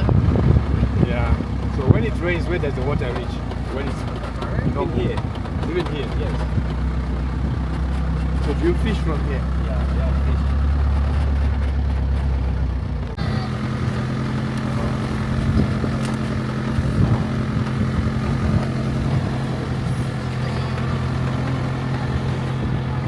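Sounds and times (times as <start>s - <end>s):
rumbling drone: 0.0s - 23.0s
vehicle engine running: 0.0s - 23.0s.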